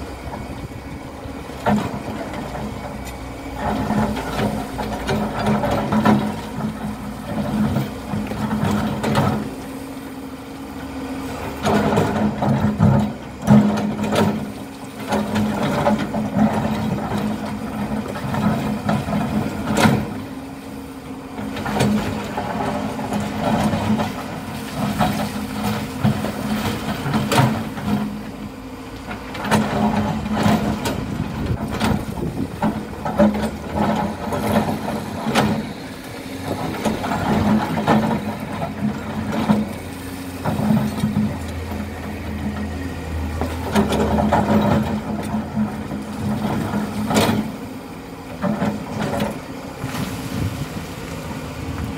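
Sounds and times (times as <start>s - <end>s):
machine knocks and clanks: 0.0s - 9.8s, 11.3s - 20.6s, 21.3s - 50.8s
diesel engine running under load: 0.0s - 51.9s.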